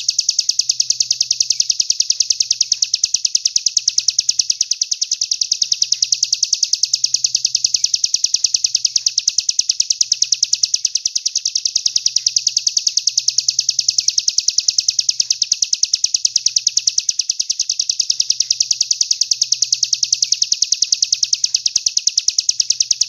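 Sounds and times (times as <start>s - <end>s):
songbird chirping rapidly: 0.0s - 23.0s.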